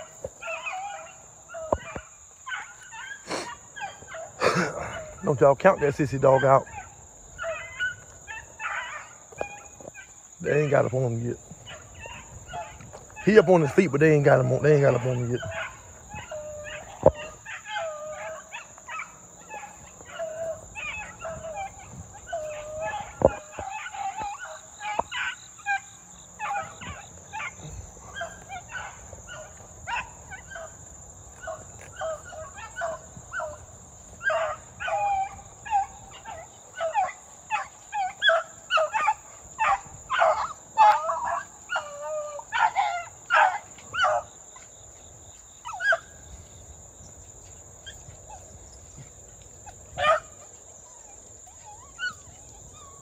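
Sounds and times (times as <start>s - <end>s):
dogs barking and yelping: 0.0s - 53.0s.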